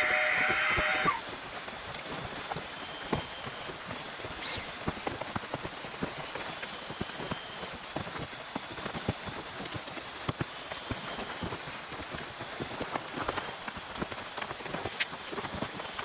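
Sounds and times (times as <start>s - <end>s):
rain on a tent: 0.0s - 16.0s.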